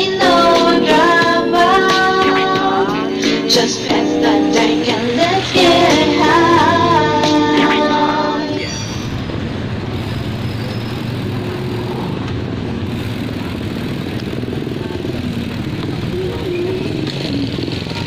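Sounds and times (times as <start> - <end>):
low road rumble: 0.0 - 18.0.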